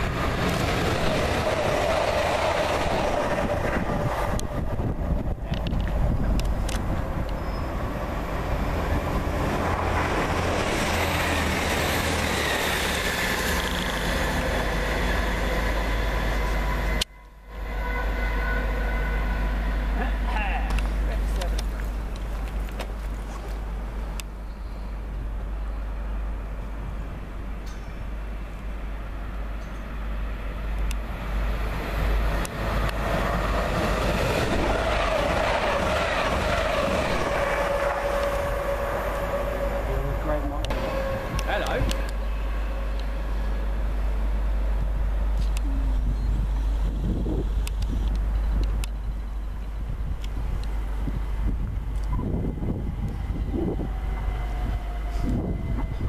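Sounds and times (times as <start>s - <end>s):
faint train whine: 0.0s - 56.0s
train wheels rumbling on rail: 0.0s - 56.0s.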